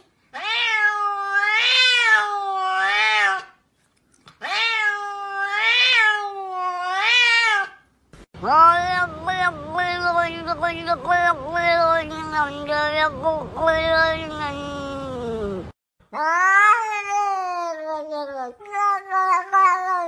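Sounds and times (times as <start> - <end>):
cat meowing long: 0.4 - 3.5, 4.4 - 7.8, 8.4 - 20.0
cat yowling: 0.4 - 3.6, 4.4 - 7.8, 8.4 - 15.6, 16.2 - 20.0.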